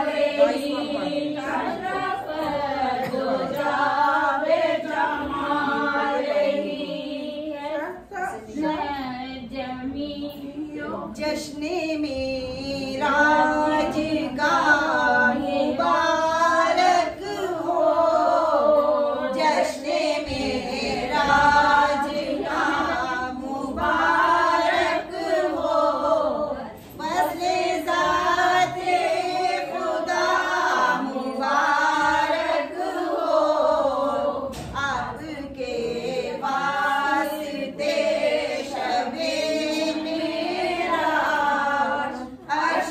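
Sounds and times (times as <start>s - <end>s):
women singing together: 0.0s - 42.9s.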